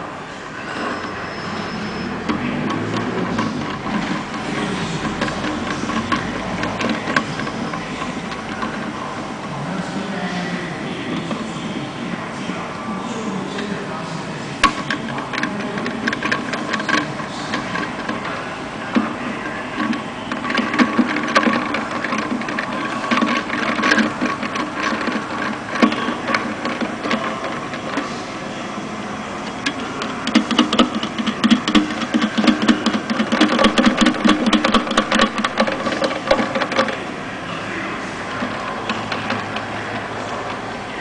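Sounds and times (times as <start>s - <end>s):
metallic clattering and rattling: 0.0s - 13.9s, 14.5s - 41.0s.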